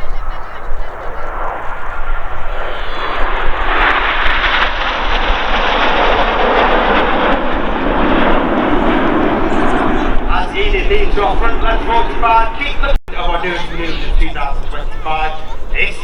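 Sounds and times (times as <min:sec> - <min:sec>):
jets flying past: 0:00.0 - 0:15.9.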